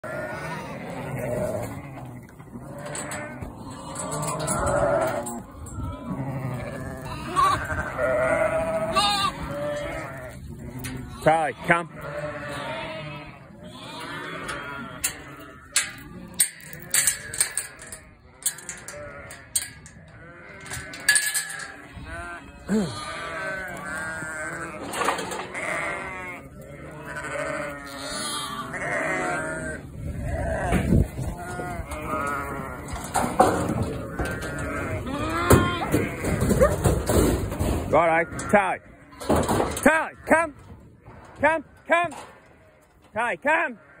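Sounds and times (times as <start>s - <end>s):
sheep and lambs bleating: 0.0s - 37.2s, 37.9s - 40.7s, 41.4s - 44.0s.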